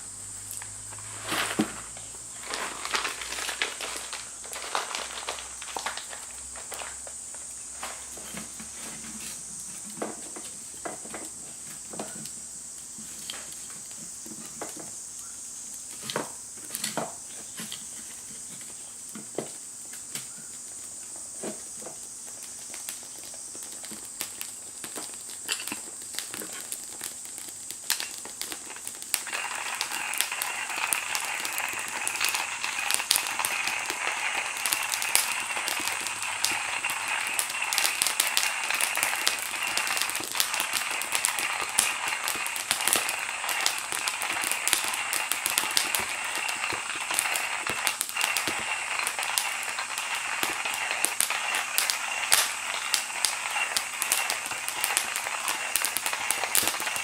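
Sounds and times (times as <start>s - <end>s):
steady hiss: 0.0s - 57.0s
wood fire crackling and popping: 0.0s - 57.0s.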